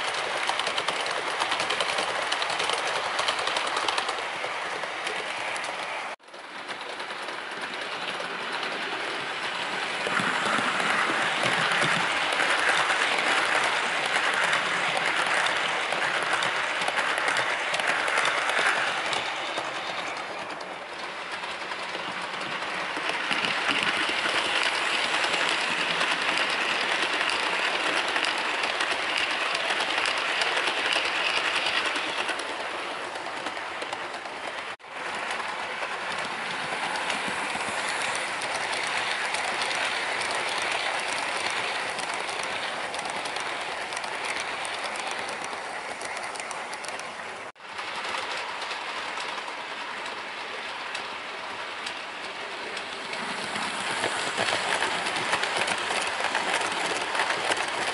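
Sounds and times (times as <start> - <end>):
model train wheels rattling: 0.0 - 57.9.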